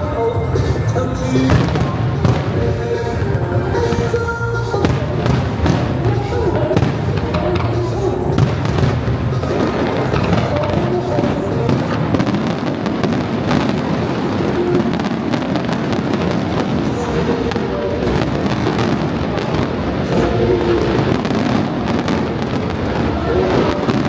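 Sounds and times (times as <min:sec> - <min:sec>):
fireworks crackling and banging: 0:00.0 - 0:24.0
music: 0:00.0 - 0:24.0.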